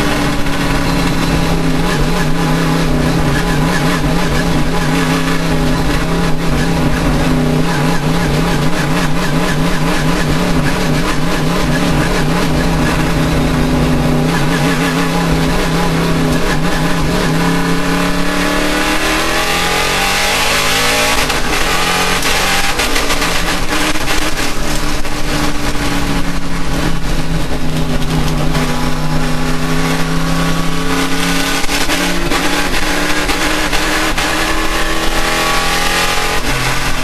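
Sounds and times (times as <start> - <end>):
race car engine: 0.0 - 37.0.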